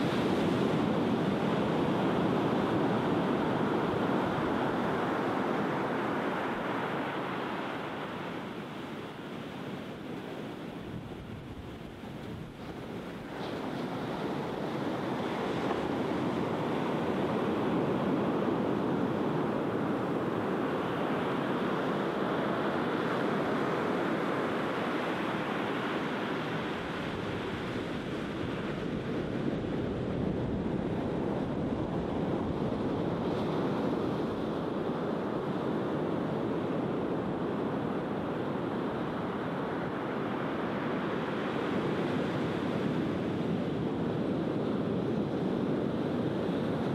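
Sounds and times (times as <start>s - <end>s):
sea surf washing up a beach: 0.0s - 46.9s.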